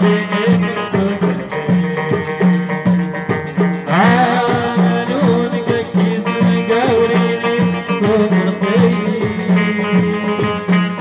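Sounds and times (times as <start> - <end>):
person singing: 0.0 - 2.5, 3.8 - 11.0
hand drums beating: 0.0 - 11.0
plucked banjos and lutes: 0.0 - 11.0.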